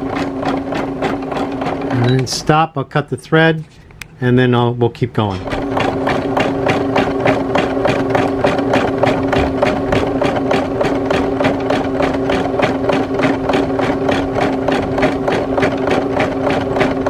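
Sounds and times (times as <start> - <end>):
sewing machine needle strokes: 0.0 - 2.6, 5.3 - 17.0
motor hum: 0.0 - 2.8, 3.4 - 17.0.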